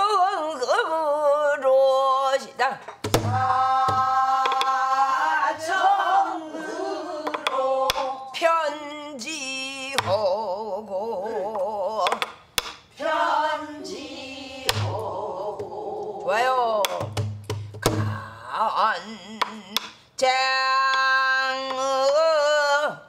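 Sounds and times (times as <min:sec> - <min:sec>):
woman singing with vibrato: 0:00.0 - 0:12.3, 0:13.0 - 0:17.0, 0:17.9 - 0:23.0.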